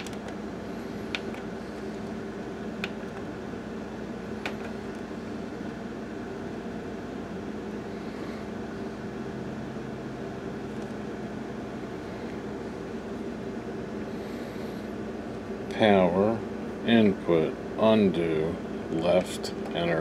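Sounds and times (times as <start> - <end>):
projector fan hum: 0.0 - 20.0.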